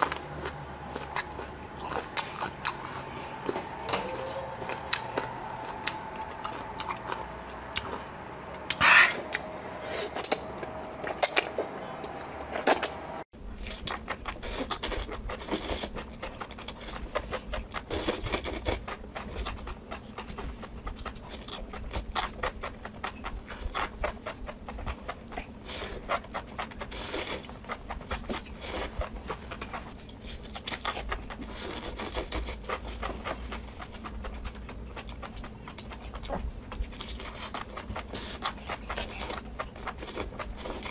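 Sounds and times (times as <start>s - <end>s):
chewing and biting: 0.0s - 13.0s, 13.6s - 40.9s.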